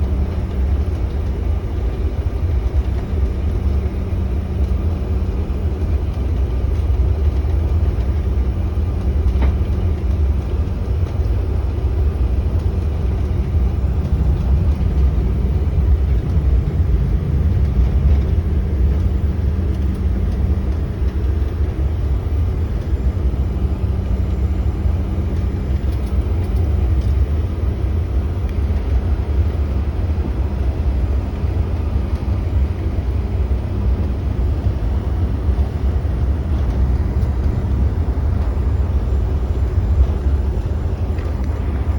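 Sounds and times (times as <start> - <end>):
jet engines rumbling: 0.0 - 41.9
steady hum: 0.0 - 41.9
wheels rolling on taxiway: 0.0 - 41.9.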